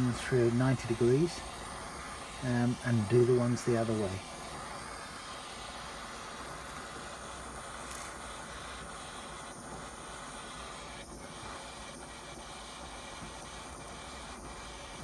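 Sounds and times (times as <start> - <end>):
blowtorch flame hissing: 0.0 - 15.0.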